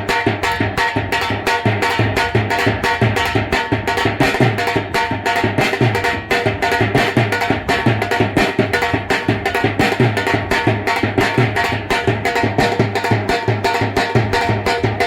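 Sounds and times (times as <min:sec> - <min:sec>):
dance music with fast drum beat: 0:00.0 - 0:15.0.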